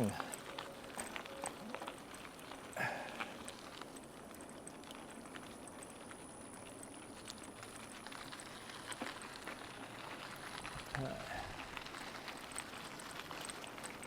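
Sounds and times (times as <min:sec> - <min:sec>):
bicycle tyres on gravel: 0:00.0 - 0:14.0.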